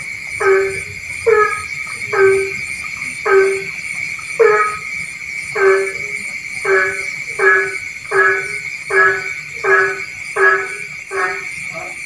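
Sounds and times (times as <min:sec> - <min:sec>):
frog croaking: 0:00.0 - 0:12.0
high-pitched frog chorus: 0:00.0 - 0:12.0.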